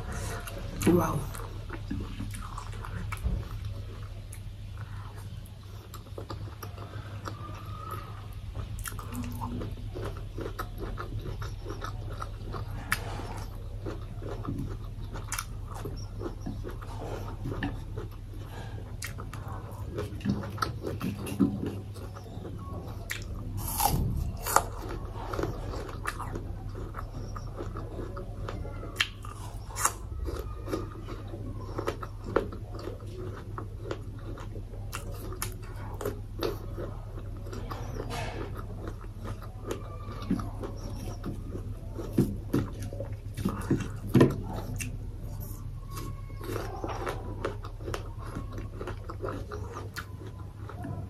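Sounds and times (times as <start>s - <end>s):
biting and chewing crunchy food: 0.0s - 51.0s
low steady hum: 0.0s - 51.0s.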